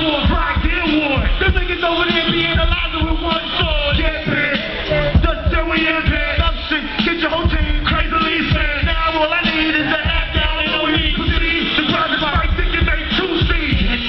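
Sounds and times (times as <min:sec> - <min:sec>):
bass-heavy beat with kick drum: 0:00.0 - 0:14.0
person rapping: 0:00.0 - 0:14.0.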